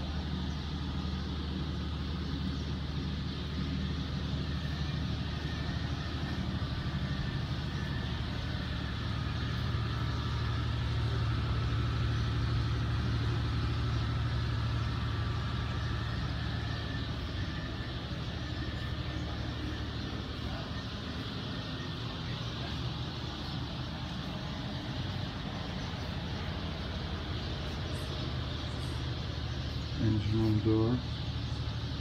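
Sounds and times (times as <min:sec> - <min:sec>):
engine droning: 0:00.0 - 0:32.0.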